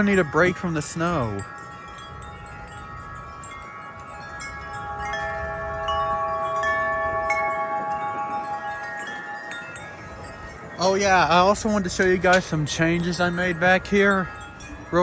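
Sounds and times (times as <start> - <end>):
low rumble of wind: 0.0 - 15.0
wind chimes ringing: 0.0 - 15.0.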